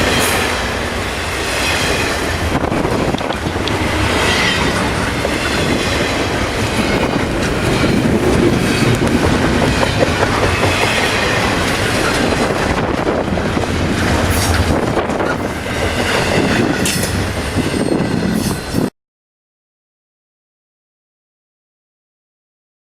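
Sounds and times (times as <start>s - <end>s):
train wheels clicking over rail joints: 0.0s - 18.8s
train rumble: 0.0s - 18.9s.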